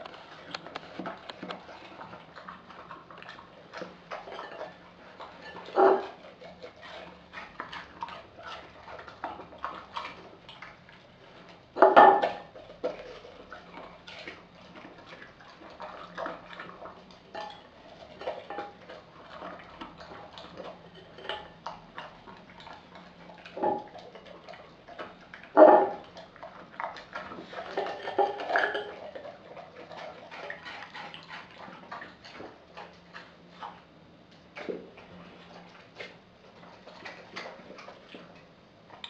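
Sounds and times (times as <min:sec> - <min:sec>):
dog chewing and licking: 0:00.0 - 0:39.0.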